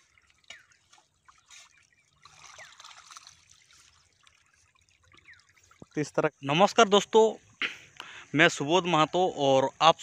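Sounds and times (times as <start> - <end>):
water trickling in a channel: 0.0 - 8.2.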